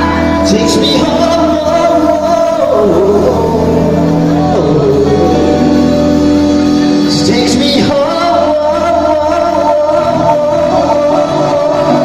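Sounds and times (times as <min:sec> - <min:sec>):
bass guitar: 0:00.0 - 0:12.0
drums: 0:00.0 - 0:12.0
keyboard chords: 0:00.0 - 0:12.0
person singing: 0:00.0 - 0:12.0.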